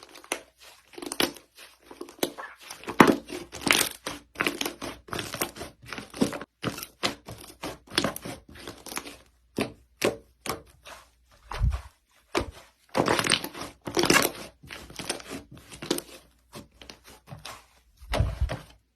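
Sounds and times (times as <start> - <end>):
slime crackling and squishing: 0.0 - 18.9.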